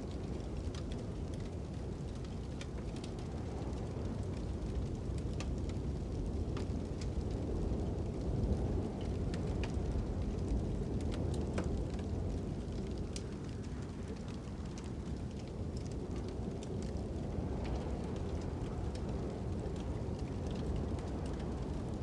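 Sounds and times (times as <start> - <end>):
fire crackling and popping: 0.0 - 22.0
low rumble of wind: 0.0 - 22.0.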